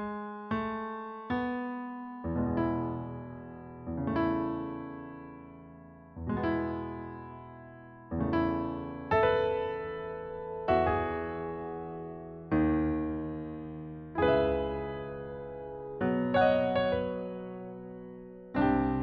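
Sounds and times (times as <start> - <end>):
solo piano chords: 0.0 - 19.0.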